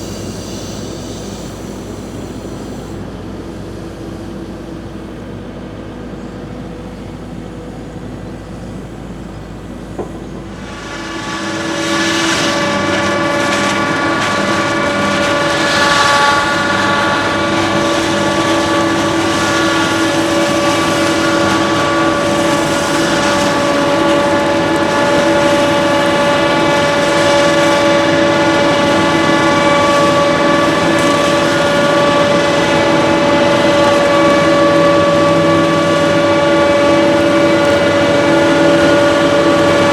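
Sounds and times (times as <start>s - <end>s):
heavy diesel machinery whining: 0.0s - 39.9s.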